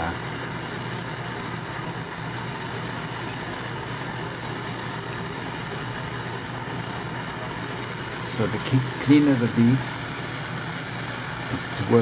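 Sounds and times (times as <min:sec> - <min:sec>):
gas burner flame hissing: 0:00.0 - 0:12.0.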